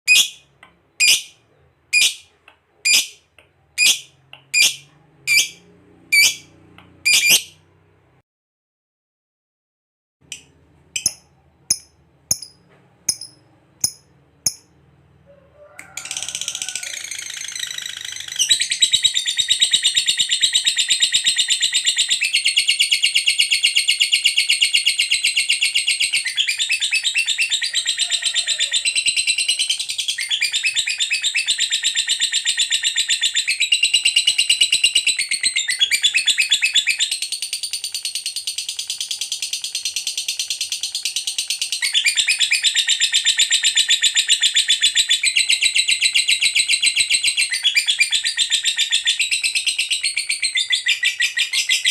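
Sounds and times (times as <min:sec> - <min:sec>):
lovebird chattering song: 0:00.1 - 0:07.6, 0:10.3 - 0:14.7, 0:16.0 - 0:51.9.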